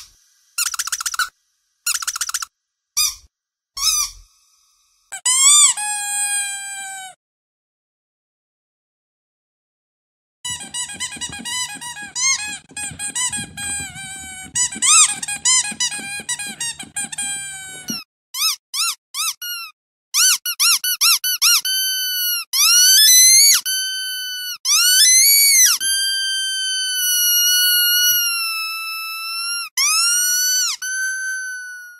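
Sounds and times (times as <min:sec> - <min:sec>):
squeaky dog toy squeaking: 0:01.9 - 0:04.2, 0:05.1 - 0:07.2, 0:10.5 - 0:31.9.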